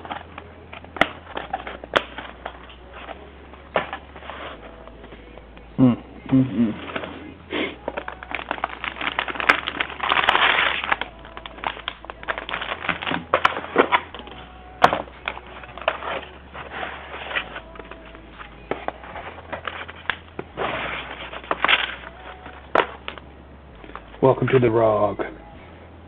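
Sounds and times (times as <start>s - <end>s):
packaging crinkling and rustling: 0.0s - 5.4s, 7.8s - 24.8s.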